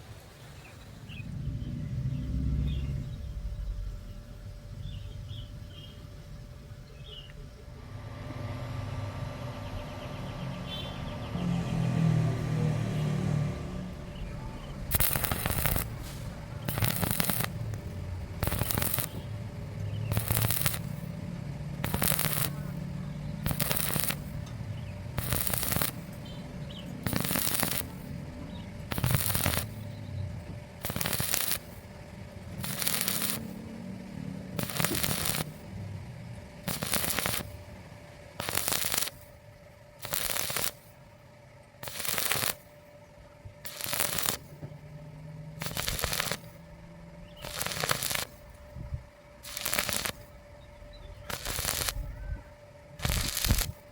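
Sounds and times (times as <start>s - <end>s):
low hum: 0.2s - 53.9s
arc welding crackling: 2.5s - 53.9s.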